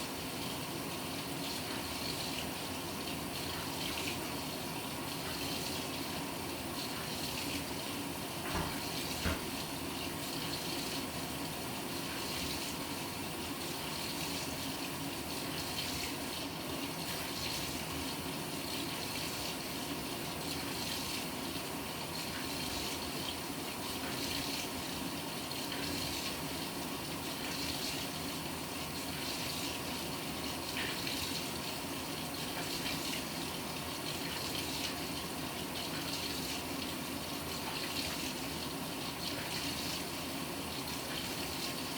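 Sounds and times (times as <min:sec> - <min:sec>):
washing machine filling with water: 0:00.0 - 0:41.9.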